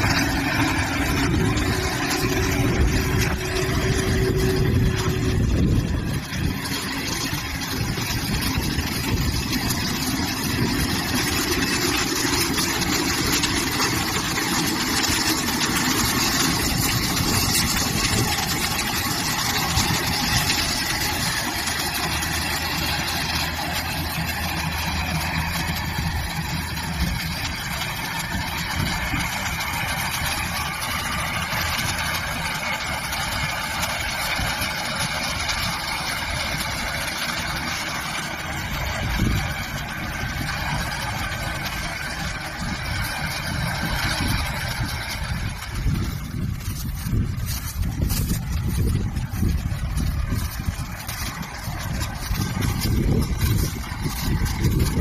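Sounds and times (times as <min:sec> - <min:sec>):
baler engine and mechanism running: 0:00.0 - 0:55.0.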